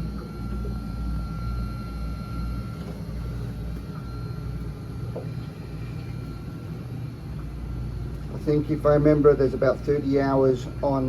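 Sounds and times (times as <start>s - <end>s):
faint high whine: 0.0s - 11.0s
low machinery hum: 0.0s - 11.0s.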